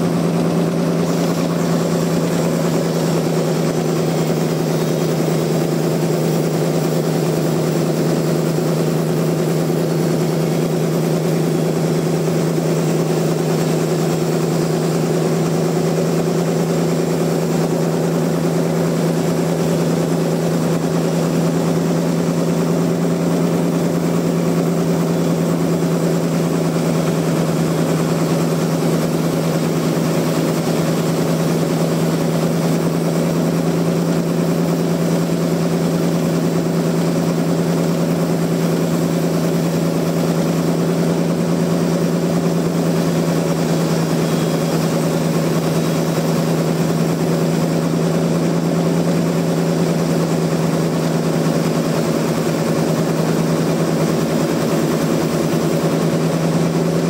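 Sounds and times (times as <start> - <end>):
sawmill machinery hum: 0.0 - 57.0.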